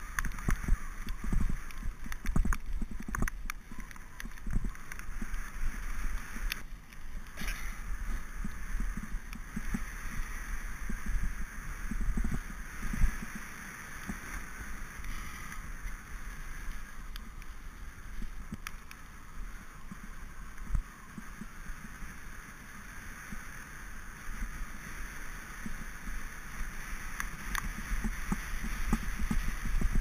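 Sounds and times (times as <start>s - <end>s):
wind rush over microphone: 0.0s - 6.6s, 7.2s - 30.0s.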